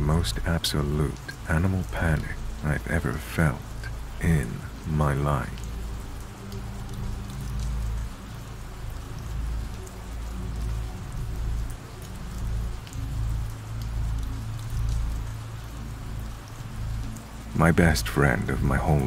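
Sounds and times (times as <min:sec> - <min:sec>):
rain pattering on a surface: 0:00.0 - 0:19.0.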